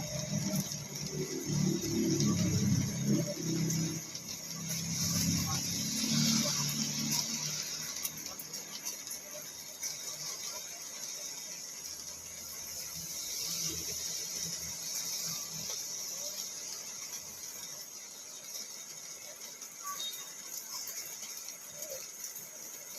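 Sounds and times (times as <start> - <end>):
rain on car roof: 0.0 - 22.9.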